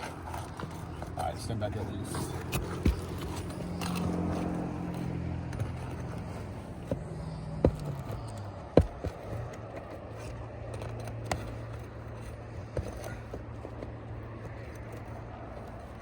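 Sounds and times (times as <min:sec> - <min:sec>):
knocks and scrapes on roof: 0:00.0 - 0:16.0
low engine hum: 0:00.0 - 0:16.0.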